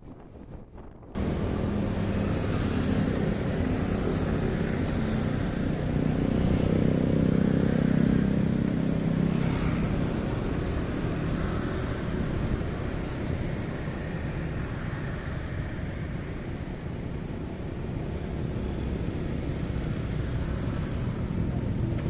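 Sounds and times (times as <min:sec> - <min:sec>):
traffic engine hum: 0:00.1 - 0:22.0.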